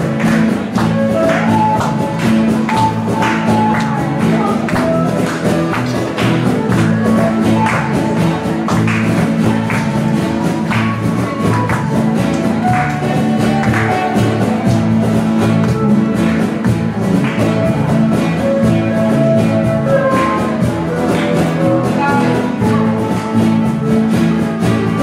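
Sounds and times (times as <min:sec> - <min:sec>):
bass guitar: 0:00.0 - 0:25.0
guitars: 0:00.0 - 0:25.0
percussion: 0:00.0 - 0:25.0.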